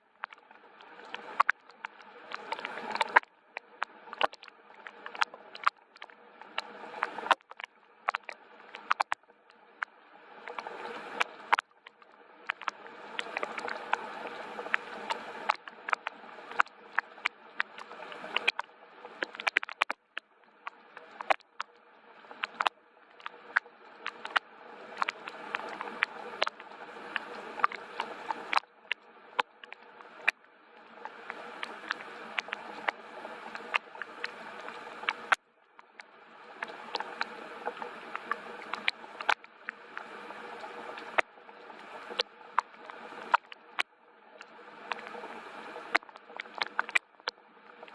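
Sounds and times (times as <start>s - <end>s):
soft hiss of rainfall: 0.0s - 47.9s.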